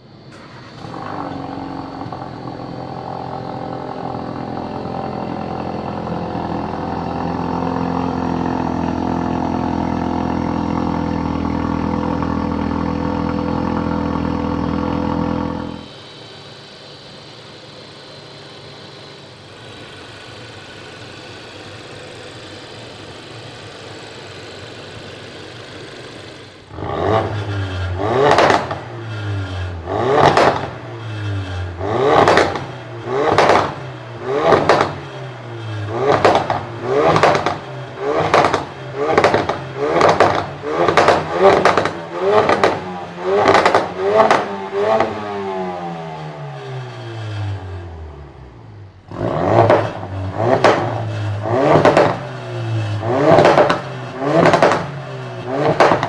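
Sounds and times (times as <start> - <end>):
car engine idling: 0.0 - 56.0
engine revving: 0.3 - 16.2, 19.0 - 56.0.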